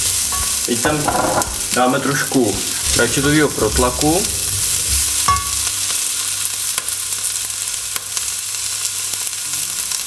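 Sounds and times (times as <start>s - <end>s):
vegetables sizzling in a pot: 0.0s - 10.0s.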